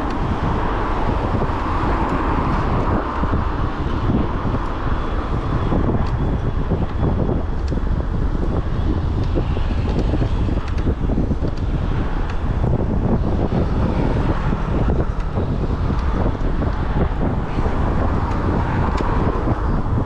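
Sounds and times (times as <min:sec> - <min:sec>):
road and traffic noise: 0:00.0 - 0:20.0
wind buffeting microphone: 0:00.0 - 0:20.0.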